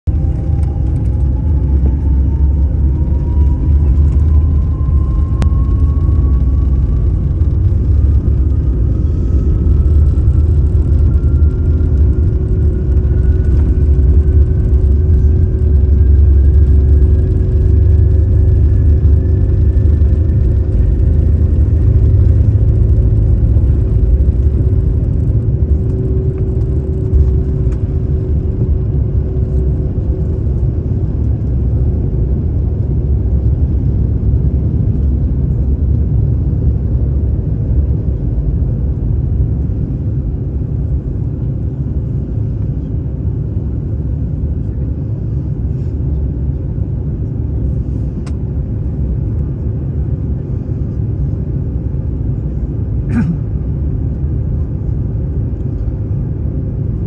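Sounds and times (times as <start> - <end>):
rising engine whine: 0.0 - 57.0
jet engines rumbling: 0.1 - 57.0.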